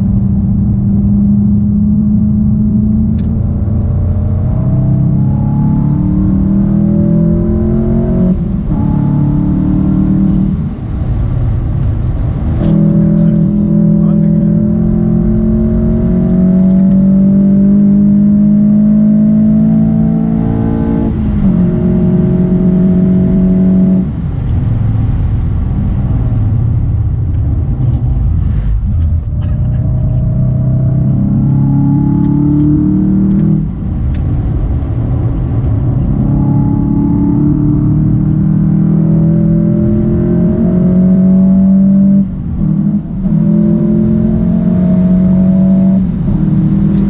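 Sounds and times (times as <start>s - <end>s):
car engine accelerating hard: 0.0s - 47.0s.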